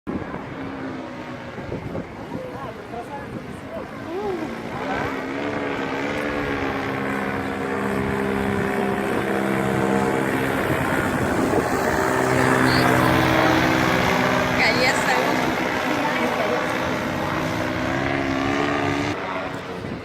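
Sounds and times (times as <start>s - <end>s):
paramotor engine and propeller: 0.1s - 20.0s.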